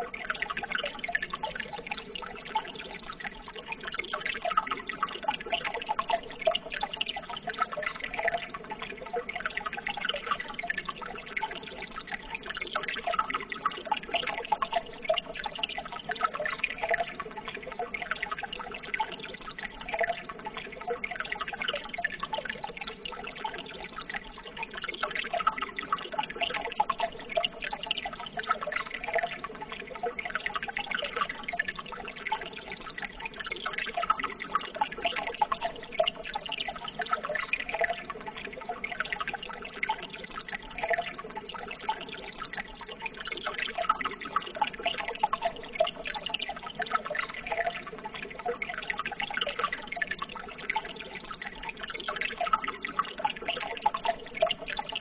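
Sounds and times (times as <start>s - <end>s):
running water babbling: 0.0s - 55.0s.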